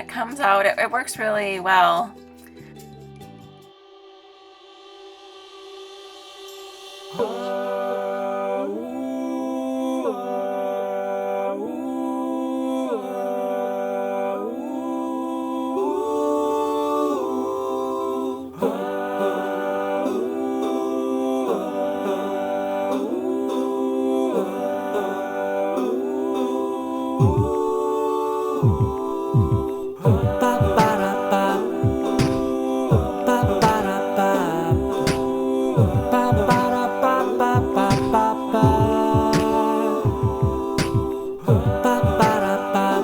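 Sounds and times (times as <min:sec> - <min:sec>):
humming voices in harmony: 0:04.2 - 0:43.0.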